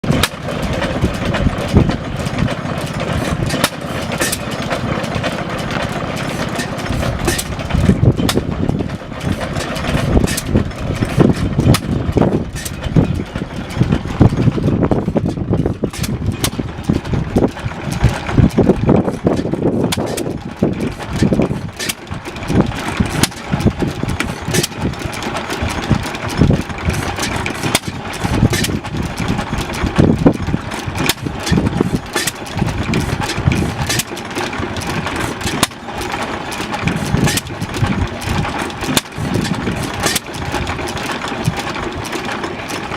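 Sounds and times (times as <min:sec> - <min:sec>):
engines clattering: 0:00.0 - 0:42.9.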